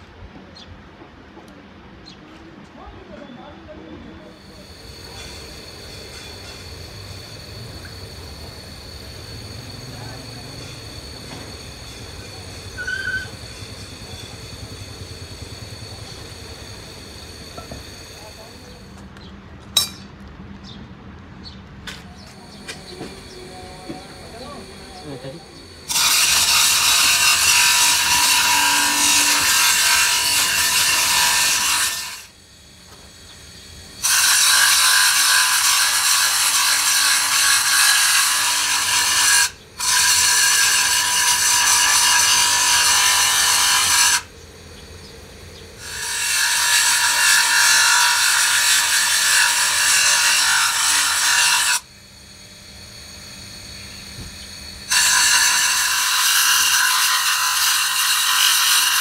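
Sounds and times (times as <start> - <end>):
bench grinder grinding metal: 4.4 - 19.0, 22.2 - 44.3, 45.0 - 59.0.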